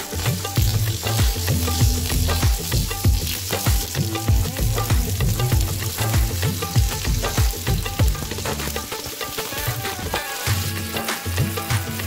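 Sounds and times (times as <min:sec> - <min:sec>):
background music with a beat: 0:00.0 - 0:12.0
vegetables sizzling in hot oil: 0:00.0 - 0:12.0.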